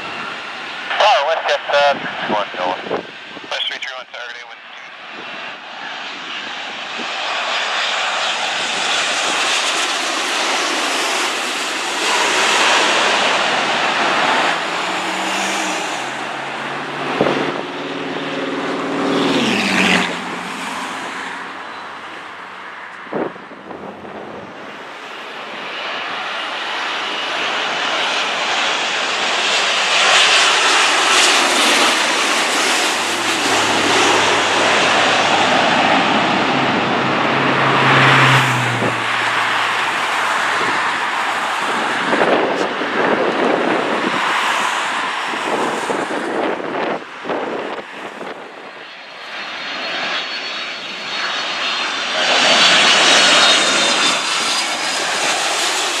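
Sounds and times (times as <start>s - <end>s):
jet airliner roar and whine: 0.0s - 56.0s.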